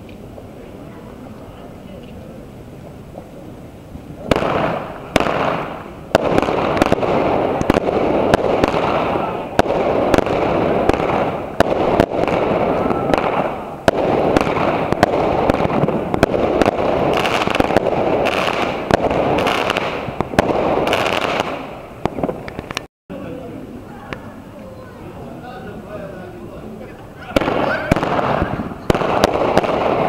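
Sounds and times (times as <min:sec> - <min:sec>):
fireworks bangs: 0:00.0 - 0:22.9, 0:24.1 - 0:30.0.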